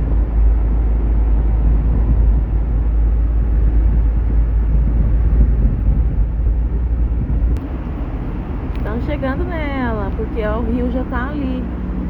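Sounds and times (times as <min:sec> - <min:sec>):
engine and road rumble in car: 0:00.0 - 0:12.0.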